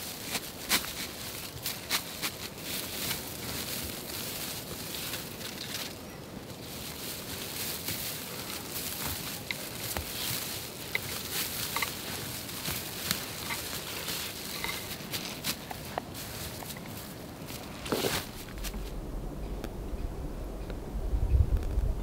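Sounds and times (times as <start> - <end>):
spruce branches rustling: 0.0 - 21.0.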